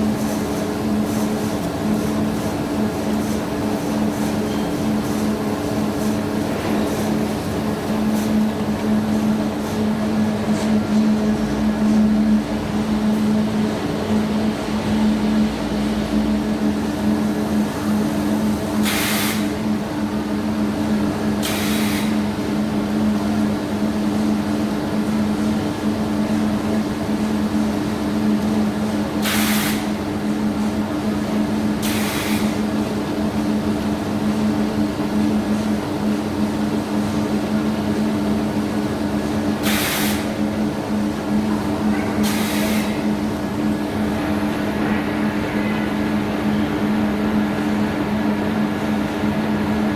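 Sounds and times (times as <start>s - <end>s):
factory machinery humming: 0.0s - 49.9s.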